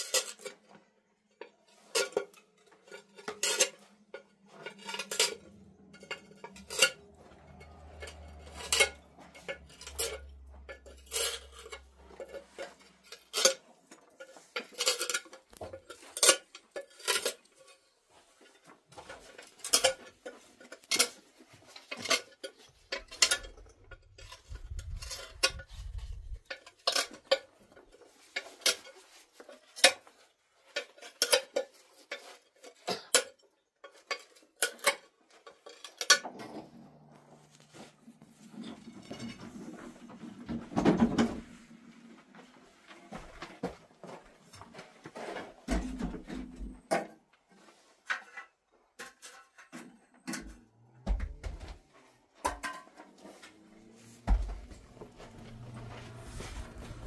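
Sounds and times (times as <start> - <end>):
metal clinks and knocks: 0.0 - 41.7, 48.1 - 57.0.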